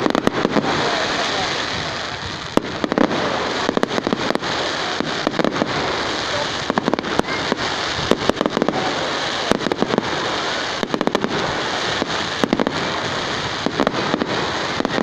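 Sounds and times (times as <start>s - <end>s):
fireworks crackling bangs: 0.0s - 15.0s
steady hiss: 0.0s - 15.0s.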